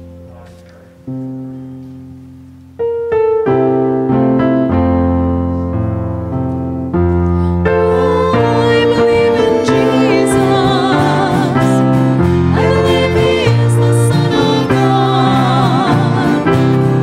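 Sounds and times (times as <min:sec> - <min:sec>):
keyboard chords: 0:00.0 - 0:17.0.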